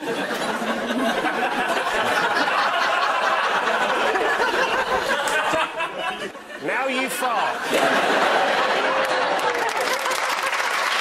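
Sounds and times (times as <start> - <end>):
studio audience laughing: 0.0 - 6.6, 7.4 - 11.0.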